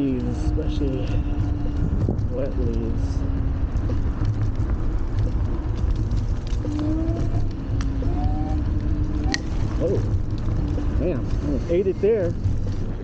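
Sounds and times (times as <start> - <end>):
small clicks and rattles: 0.0 - 13.0
tyre rumble: 0.0 - 13.0
wind buffeting: 0.0 - 13.0.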